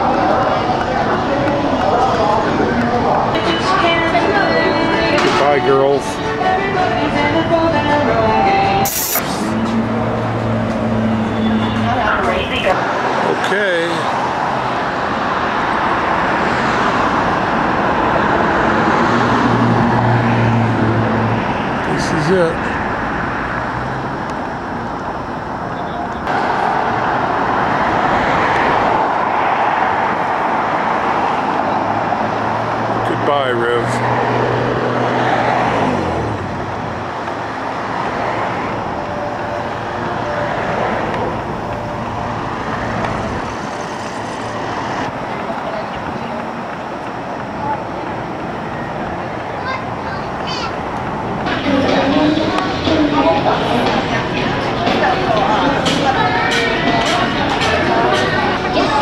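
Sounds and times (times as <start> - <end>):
cars passing: 0.0 - 59.0
vehicle engine hum: 0.0 - 59.0.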